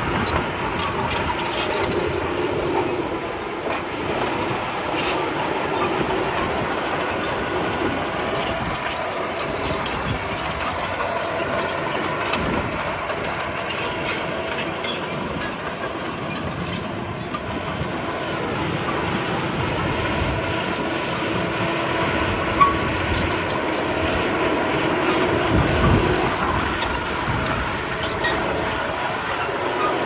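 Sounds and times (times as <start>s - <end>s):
bulldozer engine running: 0.0s - 30.0s.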